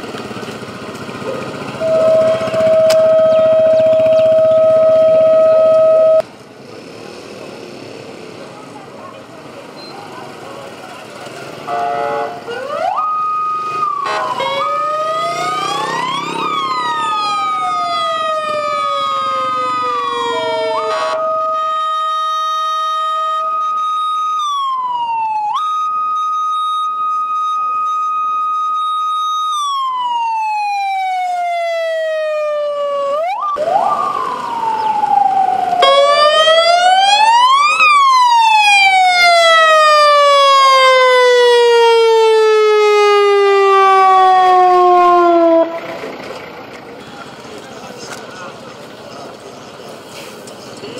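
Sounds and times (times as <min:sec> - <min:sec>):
emergency vehicle sirens: 0:00.0 - 0:06.3, 0:10.2 - 0:50.9.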